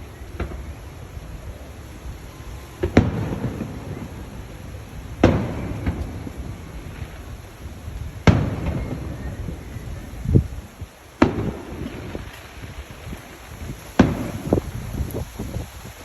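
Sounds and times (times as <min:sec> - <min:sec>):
hurricane wind rumbling: 0:00.0 - 0:16.0.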